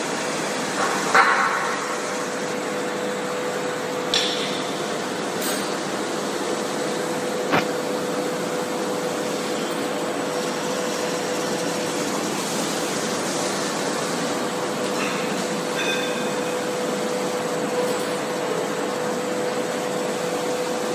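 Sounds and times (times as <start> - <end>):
machine hum with tone: 0.0 - 20.9.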